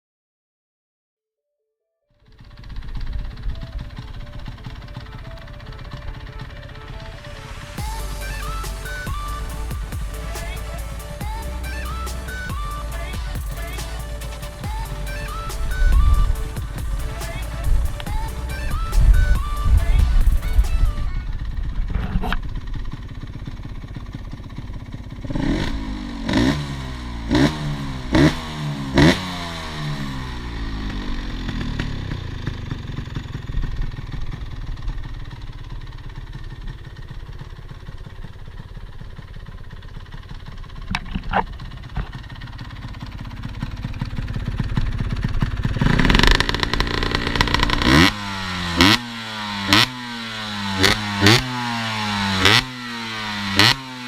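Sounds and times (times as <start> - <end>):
two-stroke engine idling and revving: 2.3 - 54.0.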